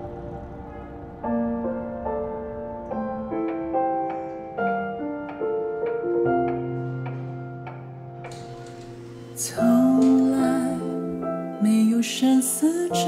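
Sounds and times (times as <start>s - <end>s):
gentle solo piano music: 0.0s - 13.0s.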